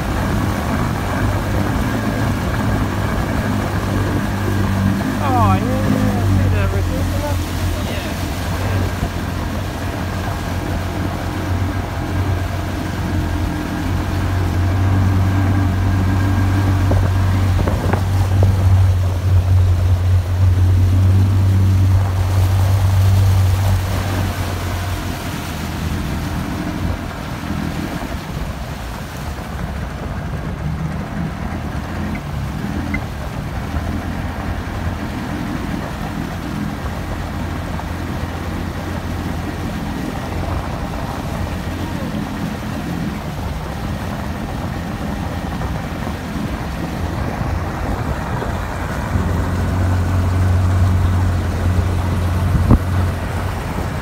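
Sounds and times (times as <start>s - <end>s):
small boat motor droning: 0.0s - 54.0s.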